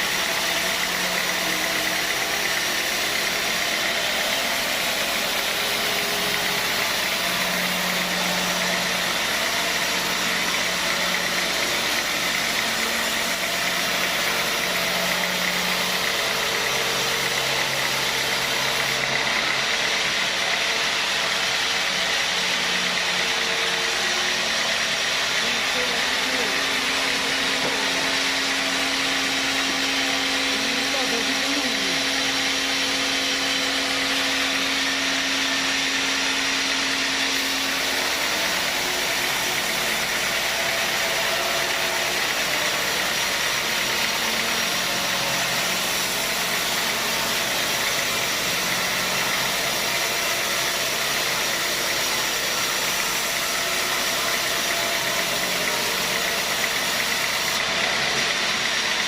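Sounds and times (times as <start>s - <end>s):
sawmill machinery running: 0.0s - 59.0s
steady machine hum: 0.0s - 59.0s.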